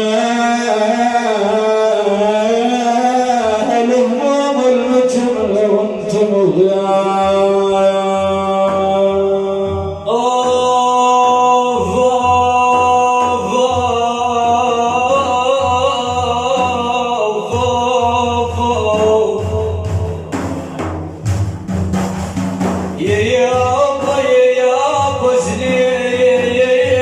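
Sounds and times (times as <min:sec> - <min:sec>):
man chanting: 0:00.0 - 0:21.2, 0:23.0 - 0:27.0
drums beating: 0:00.0 - 0:27.0.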